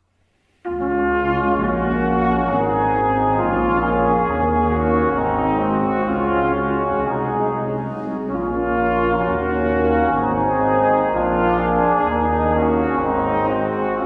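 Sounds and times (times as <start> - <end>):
brass quartet playing chords: 0.7 - 14.0.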